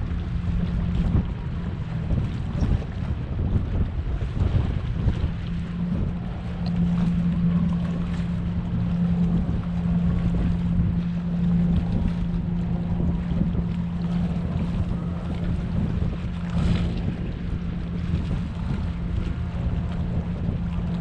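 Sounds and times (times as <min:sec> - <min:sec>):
low mechanical hum: 0:00.0 - 0:21.0
wind rumbling on microphone: 0:00.0 - 0:21.0.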